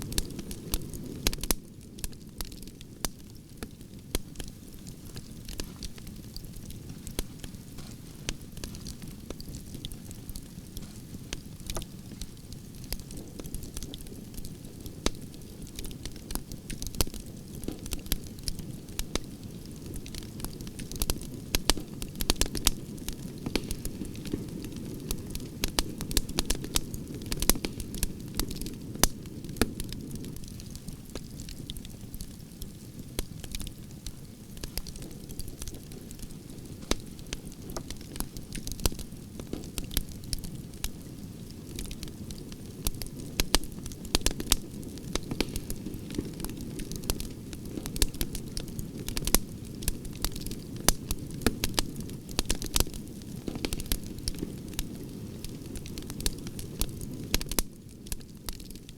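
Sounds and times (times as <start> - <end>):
campfire crackling: 0.0 - 58.9.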